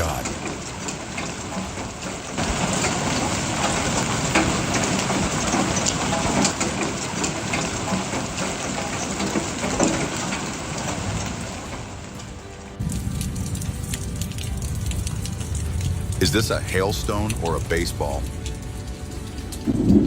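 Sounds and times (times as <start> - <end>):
heavy hail clattering: 0.0 - 20.0.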